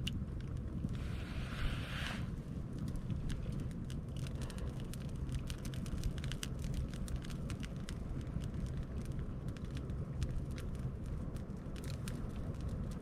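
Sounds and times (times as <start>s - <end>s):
campfire crackling and popping: 0.0s - 13.0s
low steady rumble: 0.0s - 13.0s.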